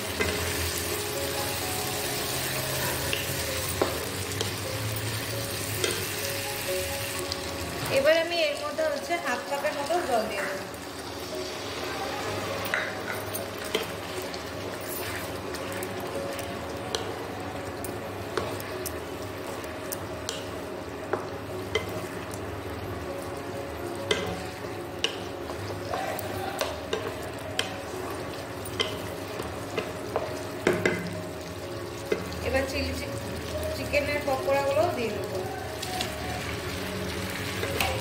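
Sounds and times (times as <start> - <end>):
sauce sizzling and bubbling in wok: 0.0 - 38.0.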